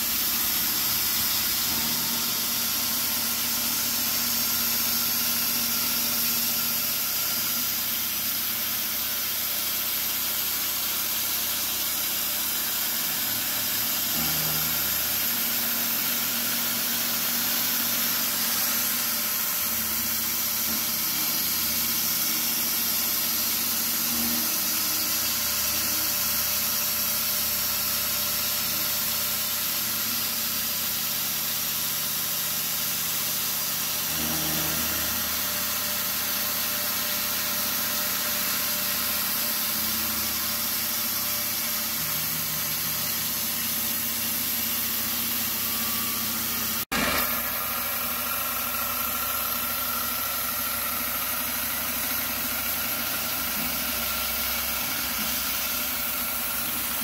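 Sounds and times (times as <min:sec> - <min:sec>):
coolant nozzle hiss: 0:00.0 - 0:57.0
milling machine cutting metal: 0:00.0 - 0:57.0.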